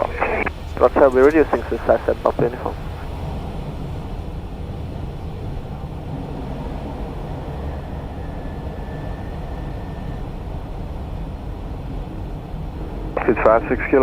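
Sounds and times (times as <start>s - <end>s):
cockpit airflow and engine hum: 0.0s - 14.0s
faint high steady tone: 0.0s - 14.0s.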